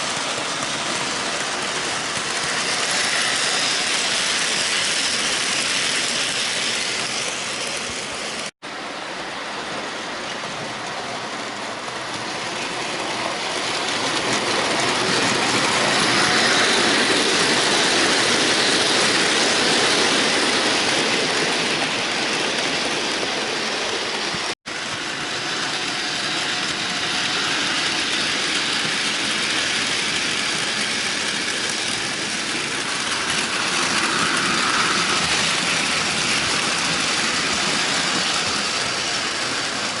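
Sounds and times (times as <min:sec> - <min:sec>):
model train running on rails: 0:00.0 - 0:40.0.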